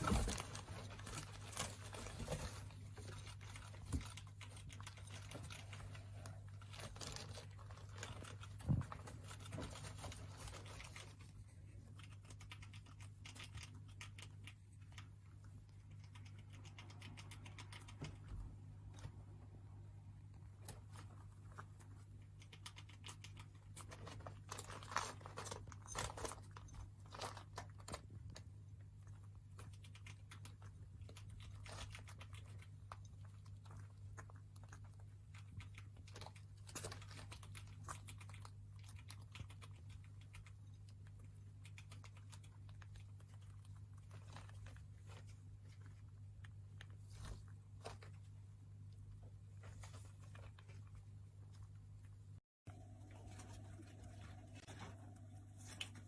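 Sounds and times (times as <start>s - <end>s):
pet rat crunching and crinkling: 0.0s - 56.0s.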